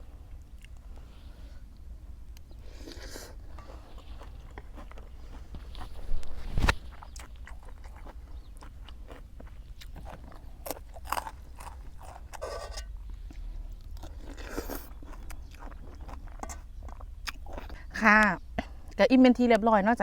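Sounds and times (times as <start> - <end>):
person chewing and crunching food: 0.3 - 1.0, 2.4 - 18.0.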